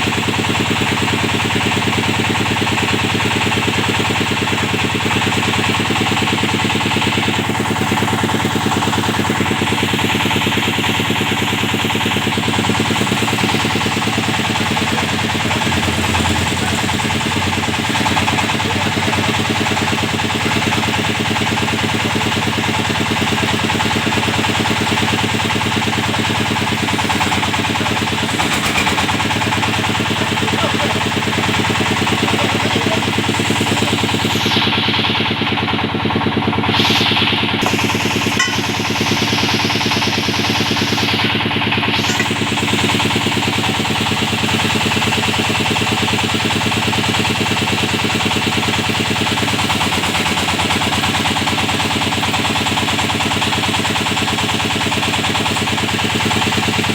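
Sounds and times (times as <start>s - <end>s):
drilling machine engine pulsing: 0.0s - 56.9s.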